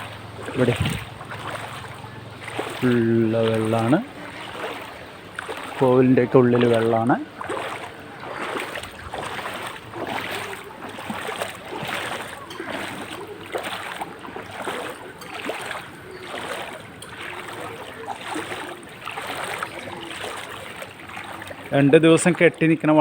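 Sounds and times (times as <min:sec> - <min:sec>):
wading through water: 0:00.0 - 0:23.0.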